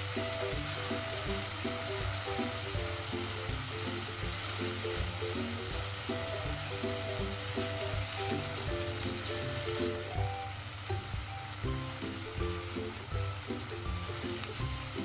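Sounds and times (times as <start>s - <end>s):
background music: 0.0s - 15.0s
food sizzling in a pan: 0.0s - 15.0s.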